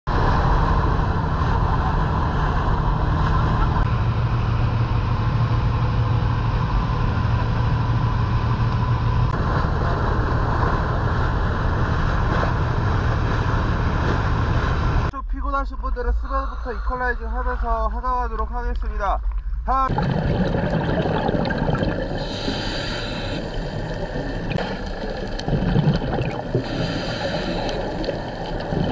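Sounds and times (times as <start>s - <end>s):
boat engine humming: 0.1s - 15.1s, 19.9s - 28.9s
wake rushing along hull: 0.1s - 15.1s, 19.9s - 28.9s.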